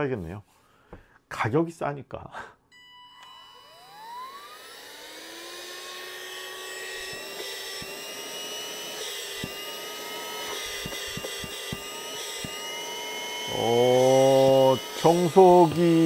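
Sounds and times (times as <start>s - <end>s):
handheld vacuum motor whine: 2.8s - 16.0s.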